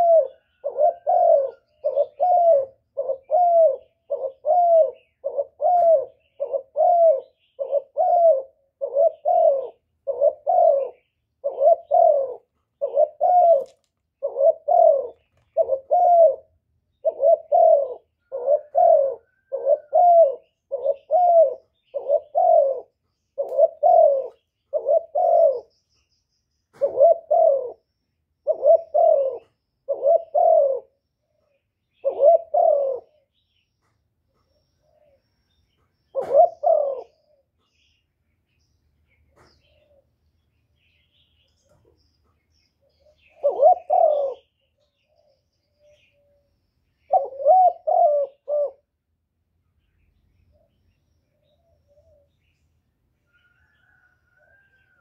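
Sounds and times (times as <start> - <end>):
dove cooing: 0.0 - 25.8, 26.7 - 33.4, 34.3 - 35.3, 36.1 - 37.8, 39.3 - 40.2, 42.8 - 49.0, 50.5 - 52.5.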